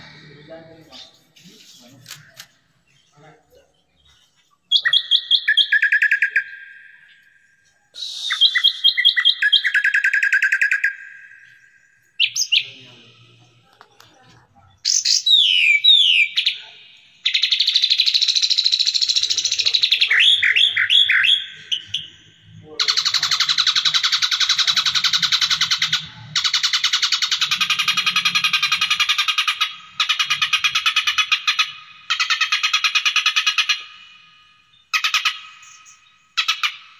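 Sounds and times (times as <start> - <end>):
recorded songbird song: 0.0 - 36.9.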